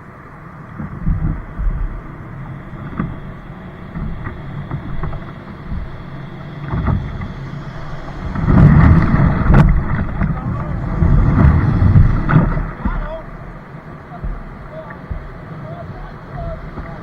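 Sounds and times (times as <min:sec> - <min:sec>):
water sounds from kayak: 0:00.0 - 0:17.0
wind on microphone: 0:00.0 - 0:17.0
light knocks: 0:02.7 - 0:13.5, 0:14.1 - 0:17.0.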